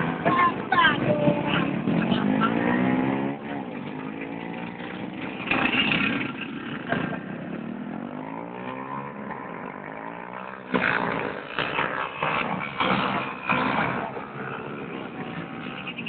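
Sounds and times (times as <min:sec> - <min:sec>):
motorcycle engines revving and passing: 0:00.0 - 0:16.0.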